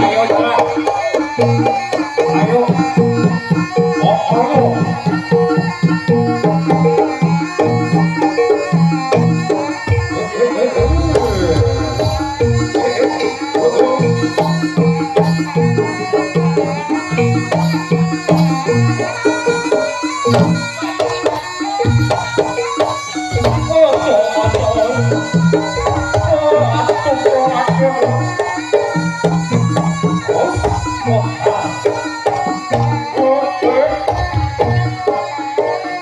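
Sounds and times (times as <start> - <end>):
ensemble drums and pitched instruments: 0.0 - 36.0.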